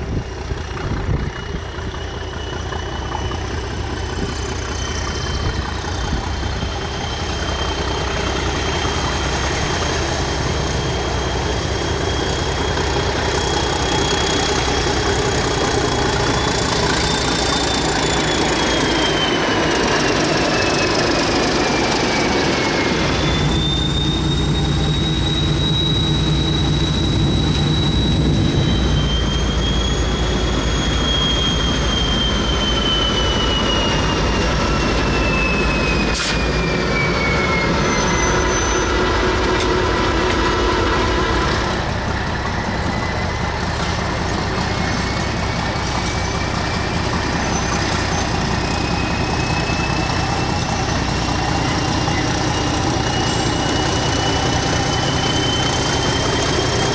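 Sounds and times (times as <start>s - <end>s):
diesel locomotive engine running: 0.0s - 56.9s
high-pitched wheel squeals: 0.0s - 56.9s.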